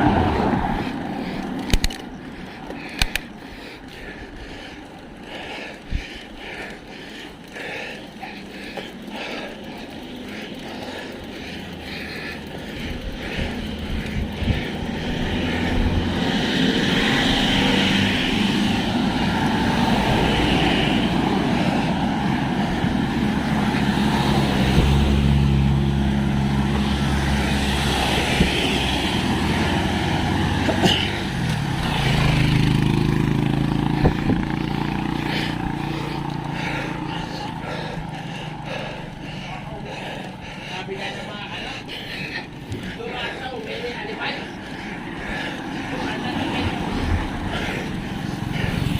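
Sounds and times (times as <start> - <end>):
low engine hum: 0.0 - 48.9
vehicle engines running: 0.0 - 48.9
wind and road noise: 0.0 - 48.9.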